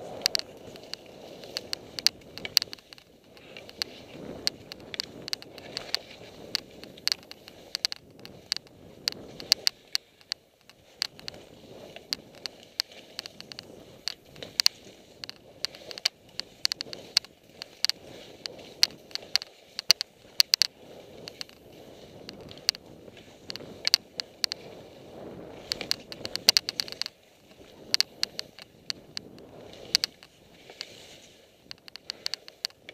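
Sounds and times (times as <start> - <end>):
sharp irregular clicks: 0.0 - 32.9
skis swishing through snow: 0.0 - 32.9.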